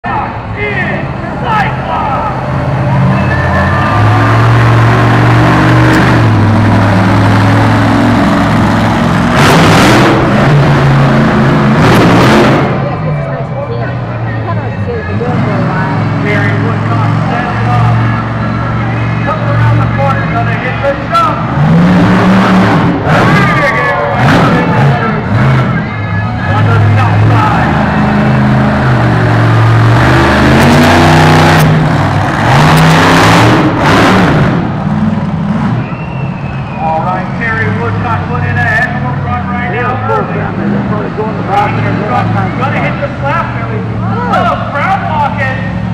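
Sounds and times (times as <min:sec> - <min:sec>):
monster truck engine revving: 0:00.0 - 0:45.9.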